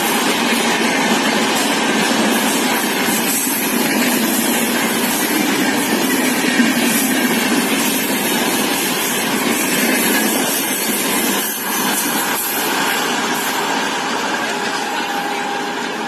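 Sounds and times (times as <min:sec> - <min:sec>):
express train rushing past: 0:00.0 - 0:16.0.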